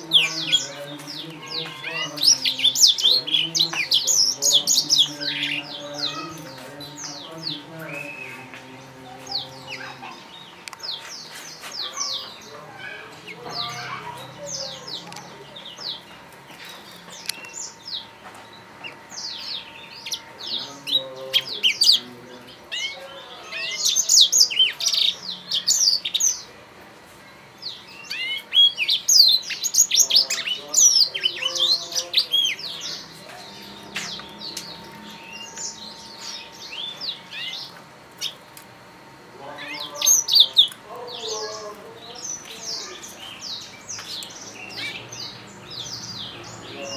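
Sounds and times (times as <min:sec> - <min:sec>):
canaries singing: 0:00.0 - 0:46.9.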